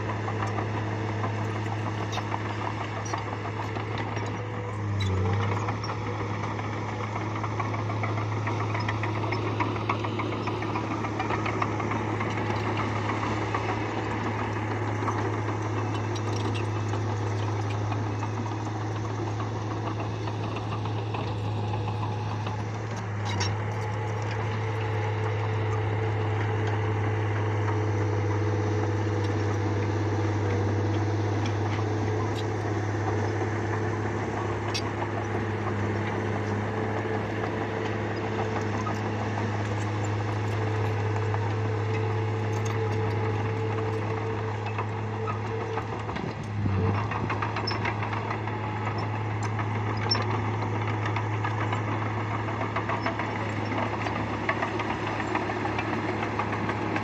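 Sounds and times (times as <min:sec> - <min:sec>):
bulldozer diesel engine humming: 0:00.0 - 0:57.0.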